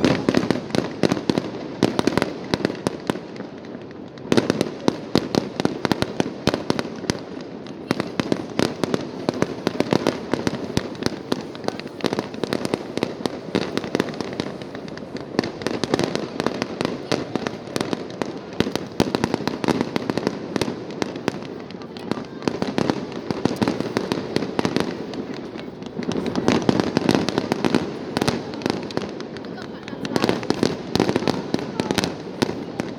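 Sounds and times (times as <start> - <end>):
fireworks bangs and crackles: 0.0 - 32.9.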